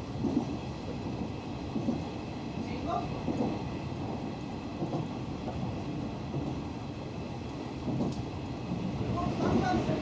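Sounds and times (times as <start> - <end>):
train car running rumble: 0.0 - 10.0.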